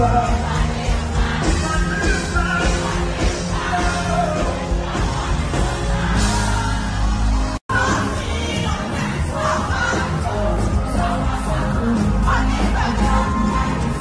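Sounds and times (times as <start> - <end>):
lead singer singing: 0.0 - 7.1, 7.7 - 14.0
amplified live band music: 0.0 - 14.0.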